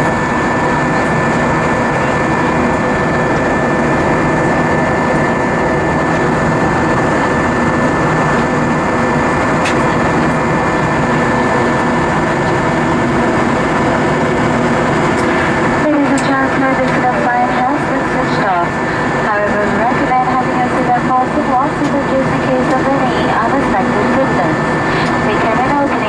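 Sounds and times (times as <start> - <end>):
jet airliner cabin noise: 0.0 - 26.0.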